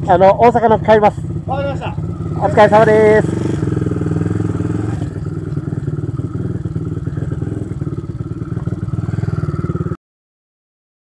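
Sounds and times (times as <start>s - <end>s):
small motorcycle engine running: 0.1s - 10.0s.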